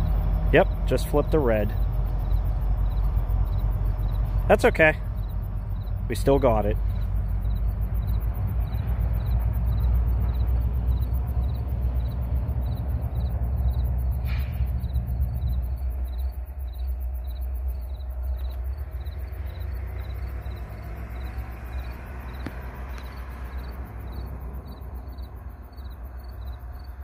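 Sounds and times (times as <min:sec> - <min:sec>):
crickets chirping: 0:00.0 - 0:27.0
diesel locomotives rumbling: 0:00.0 - 0:27.0.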